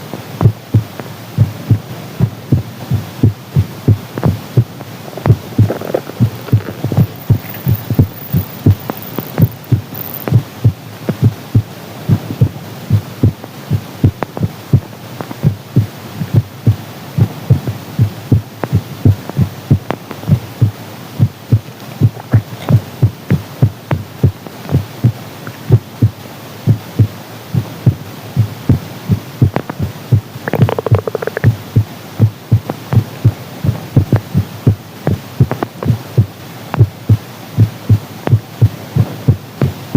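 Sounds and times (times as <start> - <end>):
heartbeat thumps: 0.4 - 39.9.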